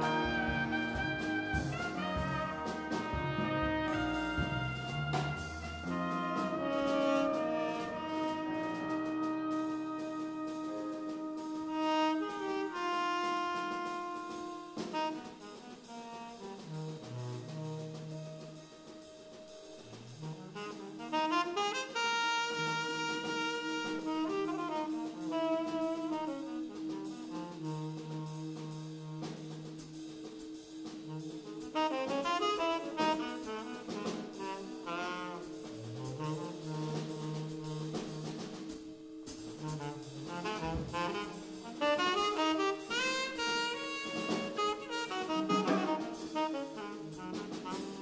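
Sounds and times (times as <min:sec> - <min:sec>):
jazz ensemble playing: 0:00.0 - 0:48.0
saxophone: 0:00.0 - 0:48.0.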